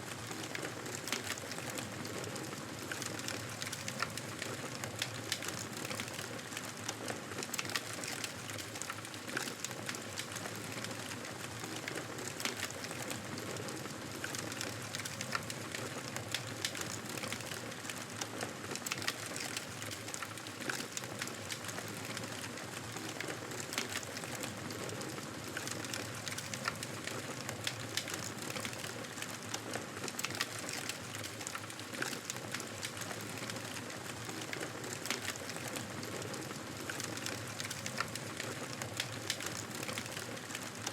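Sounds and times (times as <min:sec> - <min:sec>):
fire crackling and popping: 0:00.1 - 0:40.9.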